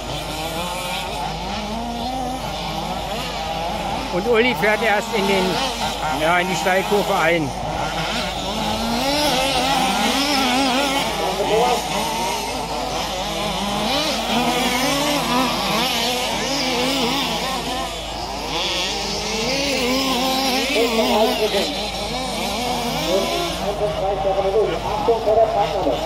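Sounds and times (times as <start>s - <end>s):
model car engines racing: 0.0s - 26.0s.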